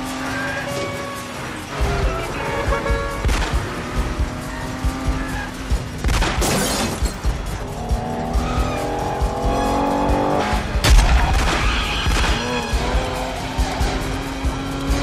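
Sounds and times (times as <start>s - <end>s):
car engines running hard: 0.0s - 15.0s.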